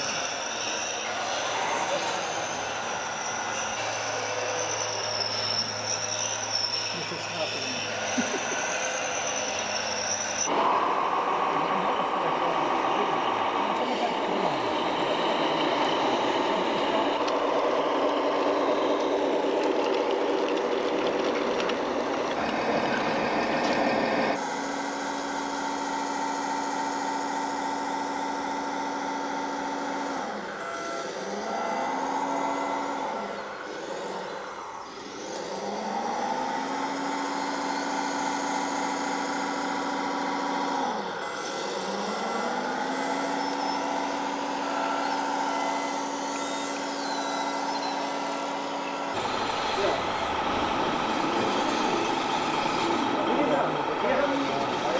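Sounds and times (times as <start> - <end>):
model tractor engine: 0.0 - 54.9
model trucks driving: 0.0 - 54.9.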